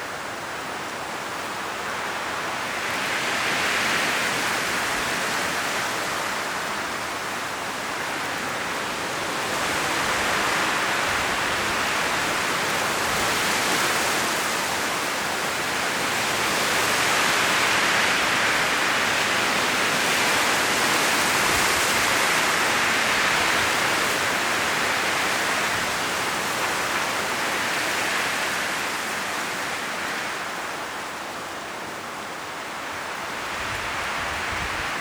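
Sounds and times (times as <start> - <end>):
strong wind through trees: 0.0 - 35.0.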